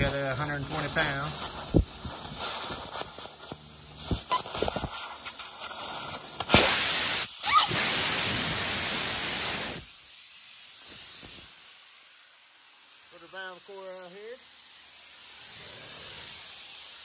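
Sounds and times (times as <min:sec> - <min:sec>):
air hissing from tire valve: 0:00.0 - 0:17.0.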